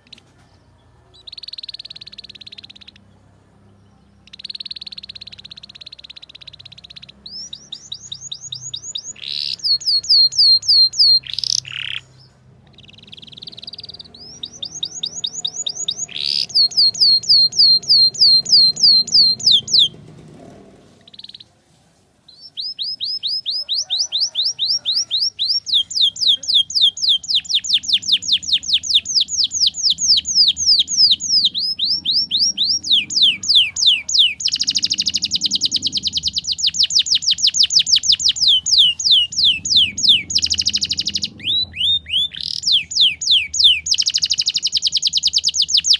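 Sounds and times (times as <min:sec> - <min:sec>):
canary singing rapid trills: 0:01.2 - 0:03.1, 0:04.2 - 0:20.0, 0:21.1 - 0:21.5, 0:22.3 - 0:45.9.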